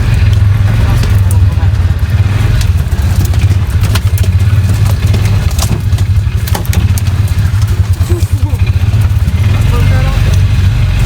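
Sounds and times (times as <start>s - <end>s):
knocks and rattles: 0.0s - 11.0s
off-road vehicle engine: 0.0s - 11.0s.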